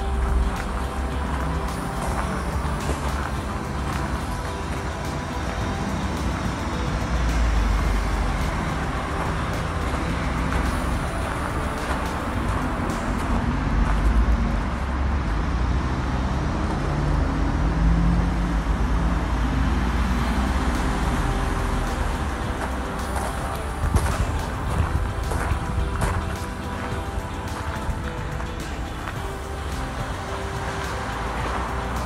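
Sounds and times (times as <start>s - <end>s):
noisy hiss: 0.0s - 32.0s.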